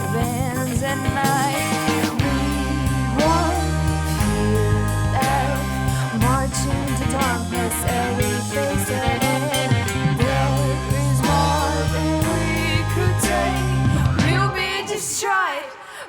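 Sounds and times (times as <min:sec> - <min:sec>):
drums beat: 0:00.0 - 0:14.6
wavering lead melody: 0:00.0 - 0:15.0
rock song: 0:00.0 - 0:16.0.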